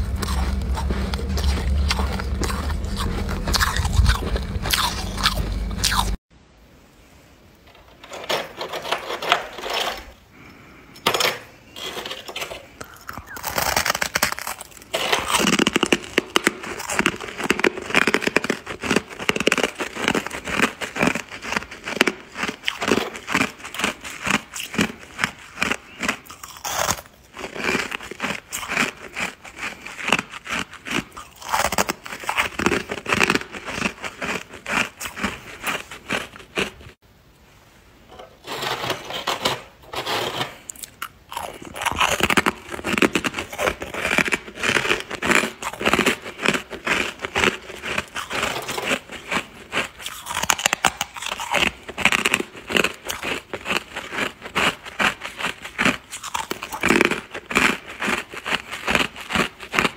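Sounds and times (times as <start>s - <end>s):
frost being chewed crunching: 0.0s - 6.2s, 11.7s - 37.0s, 40.6s - 59.9s.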